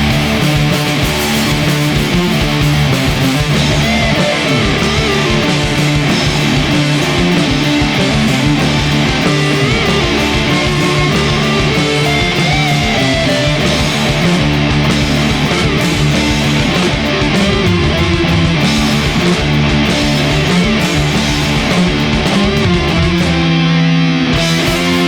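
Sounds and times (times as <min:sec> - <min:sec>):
heavy rock band playing: 0:00.0 - 0:25.0
lead guitar bending notes: 0:00.0 - 0:25.0.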